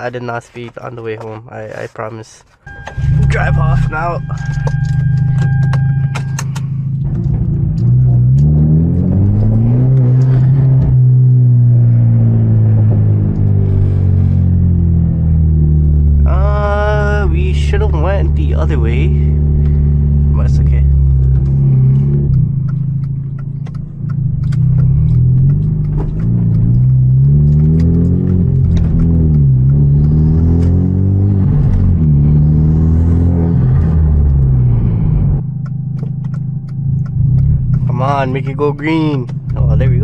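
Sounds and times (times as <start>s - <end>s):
car engine and exhaust droning: 2.5s - 40.0s.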